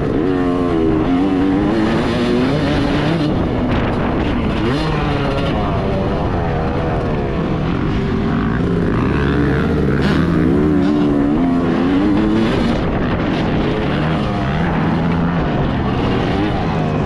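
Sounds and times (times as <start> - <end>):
motocross engine revving: 0.0 - 17.0.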